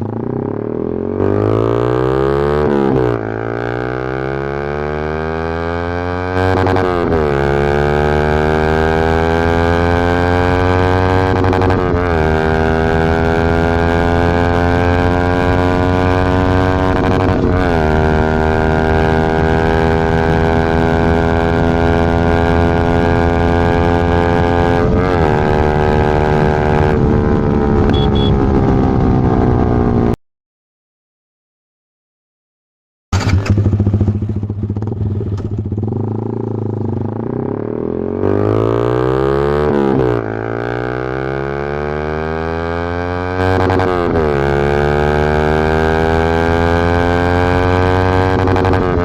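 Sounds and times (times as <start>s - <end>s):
motorcycle engine accelerating: 0.0s - 30.2s, 33.1s - 49.0s.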